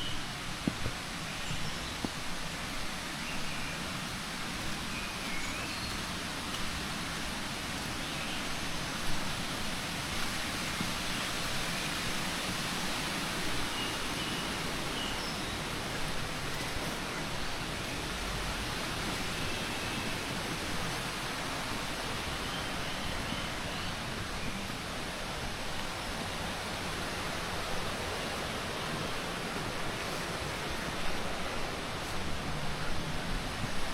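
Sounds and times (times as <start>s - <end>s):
rushing running water: 0.0s - 33.9s.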